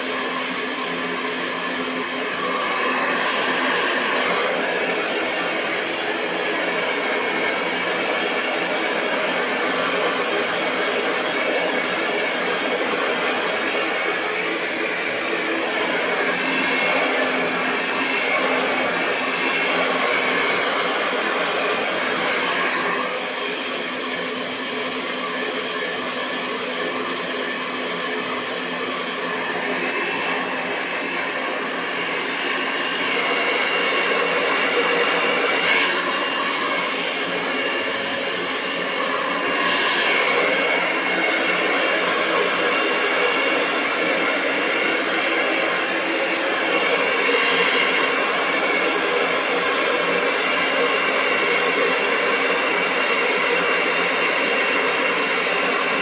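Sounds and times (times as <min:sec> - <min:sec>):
hair dryer blowing: 0:00.0 - 0:56.0.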